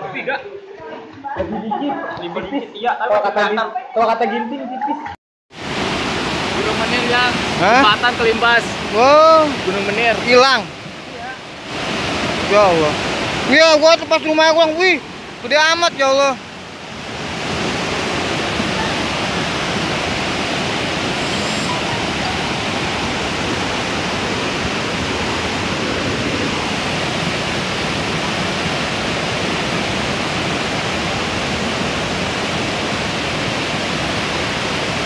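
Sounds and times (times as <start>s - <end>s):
floodwater rushing: 5.6s - 35.0s.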